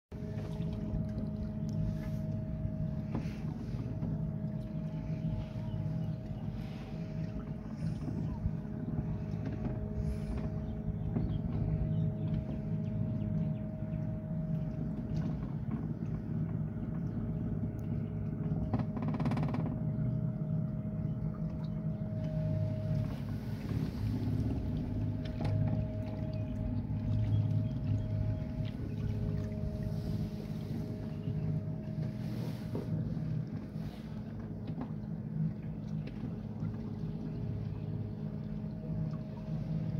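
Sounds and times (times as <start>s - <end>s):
small boat motor humming: 0.1s - 39.9s.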